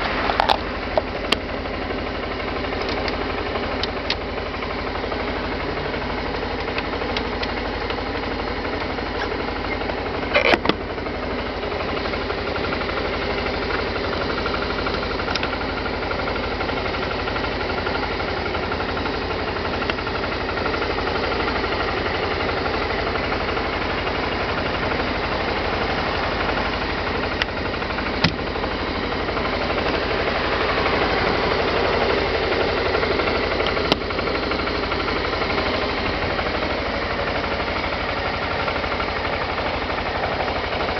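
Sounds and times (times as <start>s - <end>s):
scooter engine idling: 0.0s - 40.9s.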